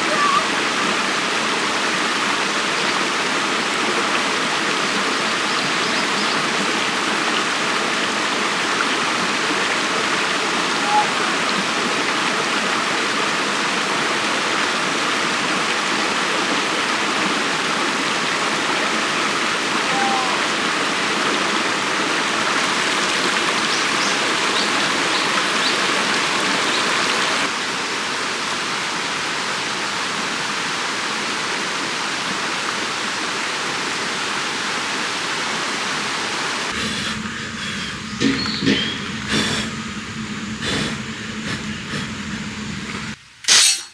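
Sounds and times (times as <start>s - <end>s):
stream rushing over rocks: 0.0s - 43.2s.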